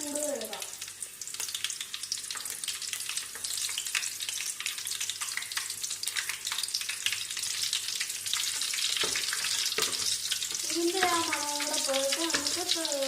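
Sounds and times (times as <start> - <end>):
chillies sizzling in oil: 0.0 - 13.0.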